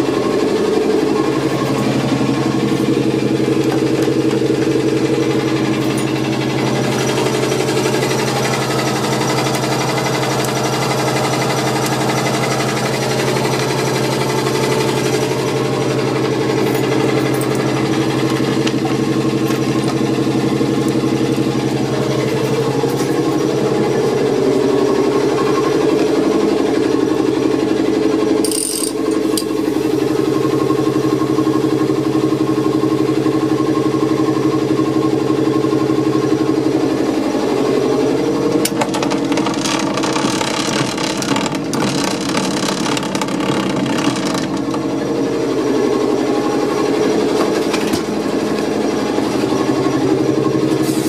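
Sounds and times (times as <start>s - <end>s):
train machinery humming and rattling: 0.0s - 51.0s.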